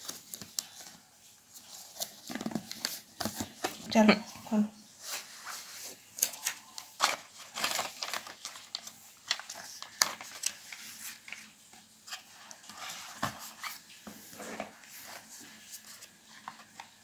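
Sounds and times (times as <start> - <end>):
cardboard and paper rustling: 0.0 - 4.3, 5.0 - 17.0.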